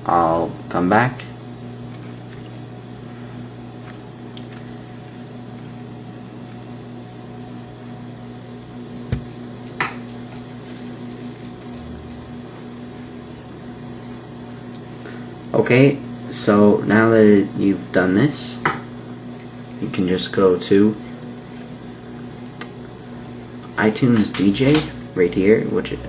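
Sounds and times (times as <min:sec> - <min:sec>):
computer fan humming: 0:00.0 - 0:26.0.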